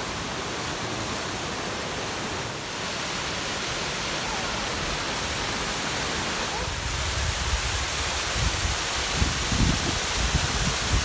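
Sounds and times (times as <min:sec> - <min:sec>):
waterfall rushing down rocks: 0:00.0 - 0:11.0.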